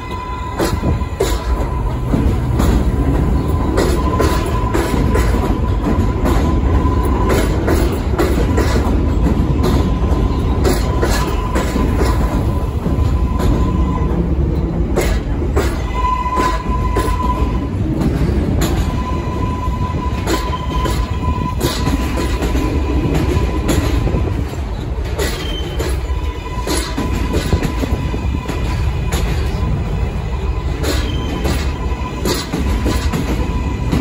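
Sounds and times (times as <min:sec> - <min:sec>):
train high whine: 0:00.0 - 0:34.0
train low rumble: 0:00.0 - 0:34.0
wheels clacking over rail joints: 0:00.0 - 0:34.0.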